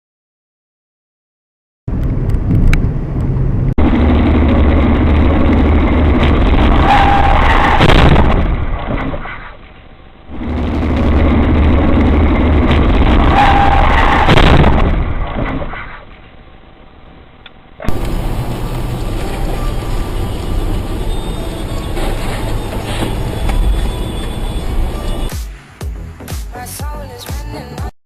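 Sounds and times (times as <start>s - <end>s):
car engine and road rumble: 1.9s - 26.3s.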